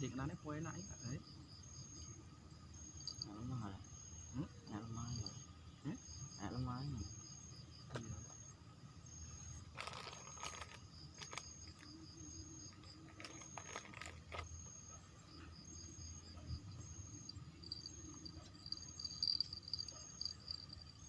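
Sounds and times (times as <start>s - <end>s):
high insect chirp: 0.0s - 21.0s
insects trilling: 0.0s - 21.0s.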